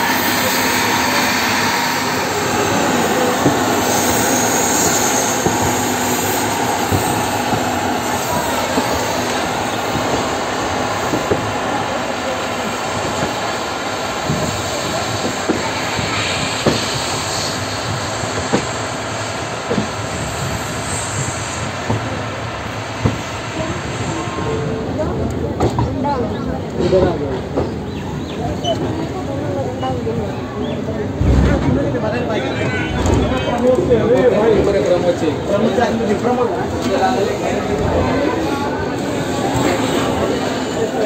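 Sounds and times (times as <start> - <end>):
train roaring at speed: 0.0 - 41.0.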